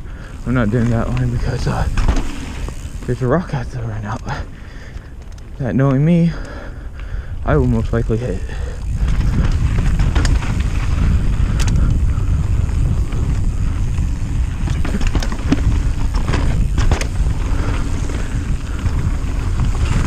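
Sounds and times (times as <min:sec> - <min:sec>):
bike clacking and rattling: 0:00.0 - 0:20.0
bike tyres rumbling on dirt: 0:00.0 - 0:20.0
wind buffeting microphone: 0:00.0 - 0:20.0.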